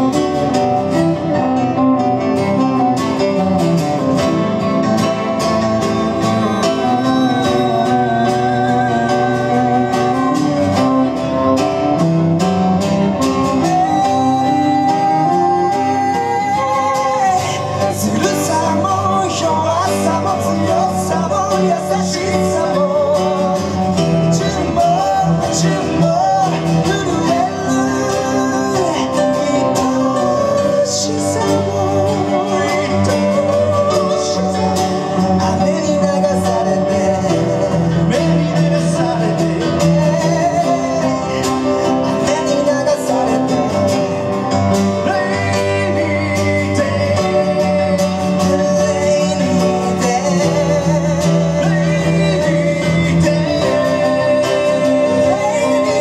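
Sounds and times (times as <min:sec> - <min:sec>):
person singing: 0:00.0 - 0:56.0
pop-rock band music: 0:00.0 - 0:56.0.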